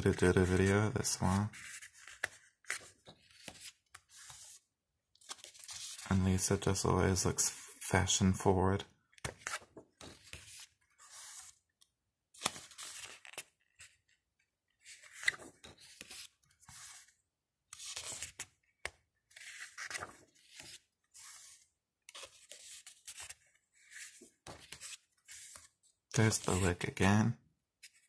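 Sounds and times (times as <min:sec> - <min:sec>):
book pages turning: 0:00.0 - 0:04.6, 0:05.2 - 0:06.1, 0:09.2 - 0:14.2, 0:14.8 - 0:27.0.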